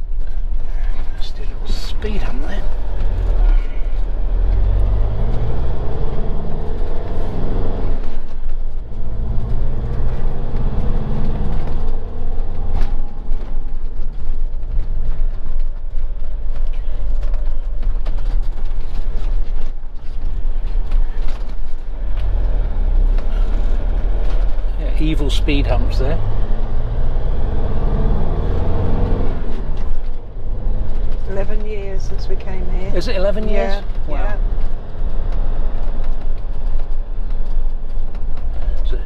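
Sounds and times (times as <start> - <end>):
engine and road noise: 0.0 - 39.0.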